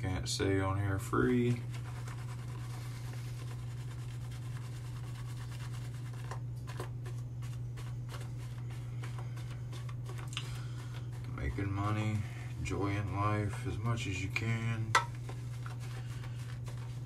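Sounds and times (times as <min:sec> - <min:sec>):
steady low hum: 0:00.0 - 0:17.0
faint scratching and rubbing: 0:01.1 - 0:17.0.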